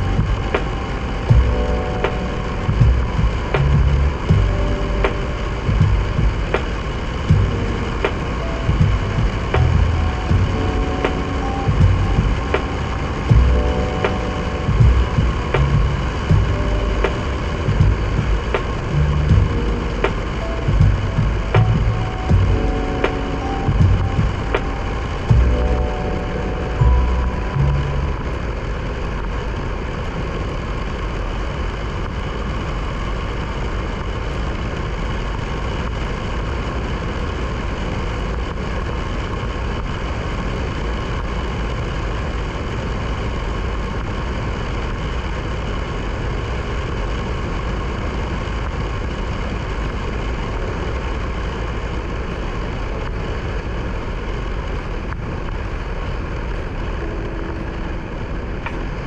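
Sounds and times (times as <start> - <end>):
road noise: 0.0 - 59.0
wind noise: 0.0 - 59.0.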